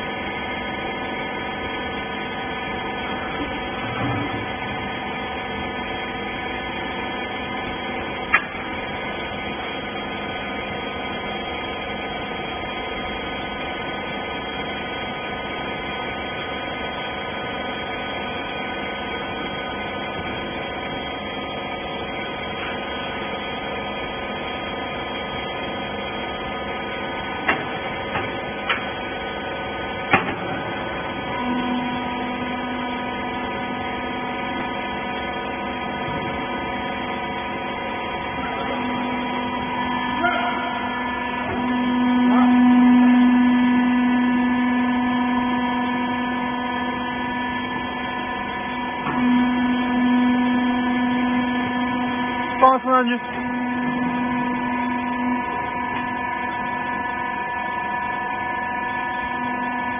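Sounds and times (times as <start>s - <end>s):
hydraulic power unit humming: 0.0s - 59.9s.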